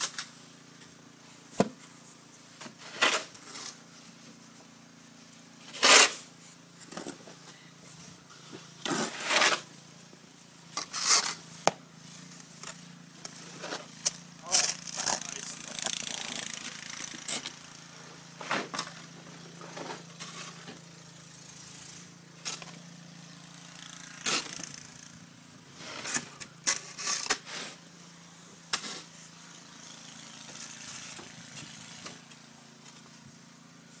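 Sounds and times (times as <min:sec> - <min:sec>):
snow shovels scraping snow: 0:00.0 - 0:34.0.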